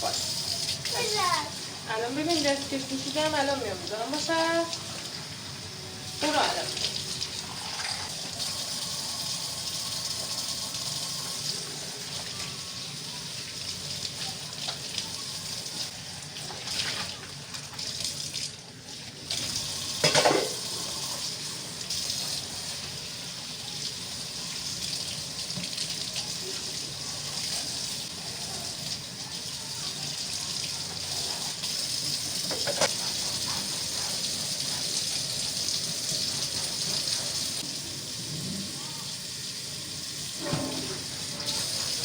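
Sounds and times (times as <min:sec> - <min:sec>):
tap water running into sink: 0:00.0 - 0:42.0.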